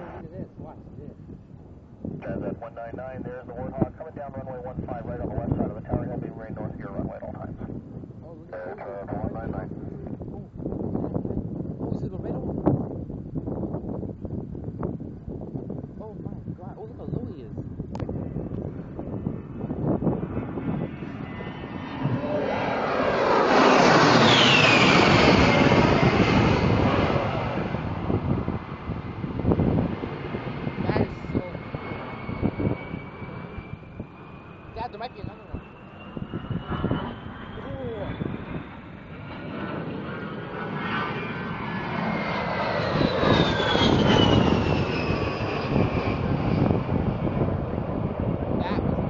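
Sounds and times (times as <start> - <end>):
high jet whine: 0.0 - 11.2, 13.1 - 49.0
jet aircraft flyby: 0.0 - 49.0.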